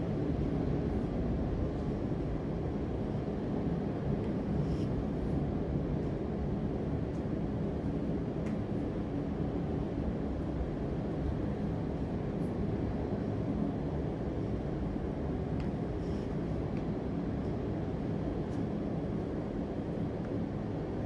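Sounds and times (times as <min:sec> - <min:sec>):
faint hum: 0:00.0 - 0:21.0
low rumbling background noise: 0:00.0 - 0:21.0.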